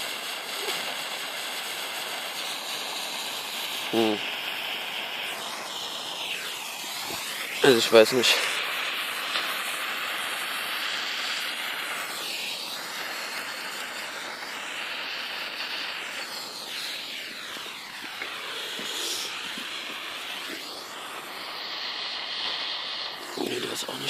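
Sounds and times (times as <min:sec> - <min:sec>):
igniter stick burning with hiss: 0:00.0 - 0:24.0.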